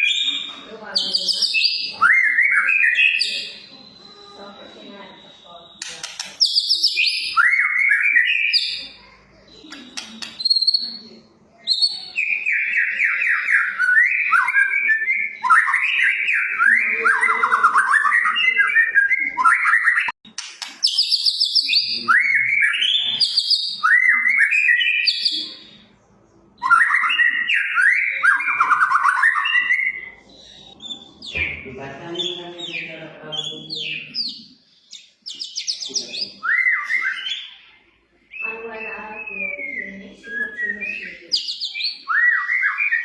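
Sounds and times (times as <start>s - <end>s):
songbird singing: 0.0s - 20.2s, 20.8s - 43.0s.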